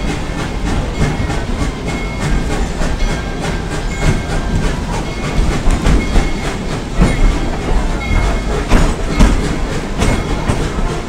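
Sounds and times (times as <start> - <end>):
train low rumble: 0.0 - 11.0
train wheels clicking over rail joints: 0.0 - 11.0.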